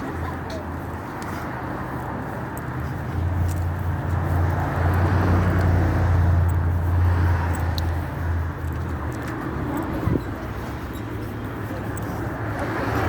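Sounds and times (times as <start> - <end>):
motor vehicle rumbling: 0.0 - 13.0
road noise: 0.0 - 13.0.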